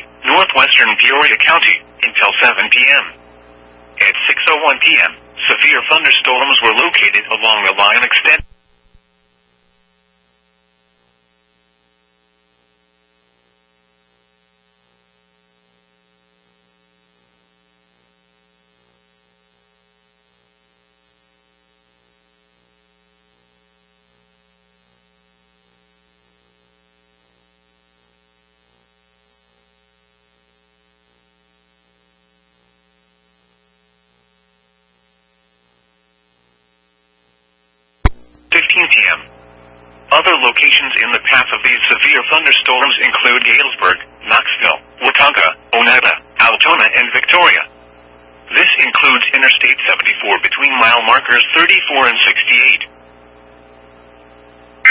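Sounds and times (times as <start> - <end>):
faint electrical hum: 0.0 - 54.9.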